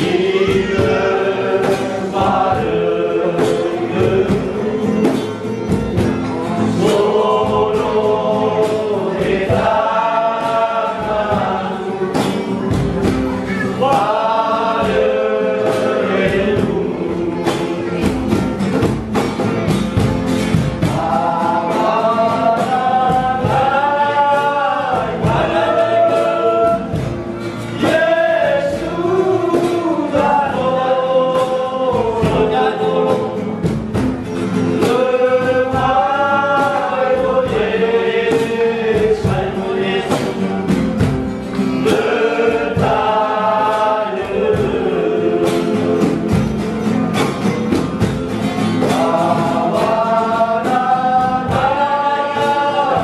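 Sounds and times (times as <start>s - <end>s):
men's vocal group singing a hymn: 0.0s - 19.0s, 20.0s - 53.0s
strummed acoustic guitar: 0.0s - 53.0s.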